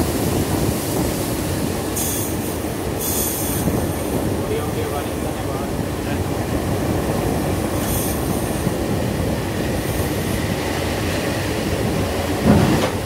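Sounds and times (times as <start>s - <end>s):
wheels rumbling on rails: 0.0s - 13.0s.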